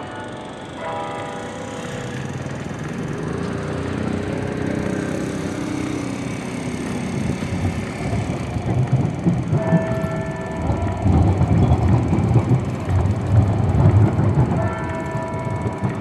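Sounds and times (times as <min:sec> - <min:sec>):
tower bells ringing: 0:00.0 - 0:16.0
tram rolling and electric hum: 0:00.0 - 0:16.0.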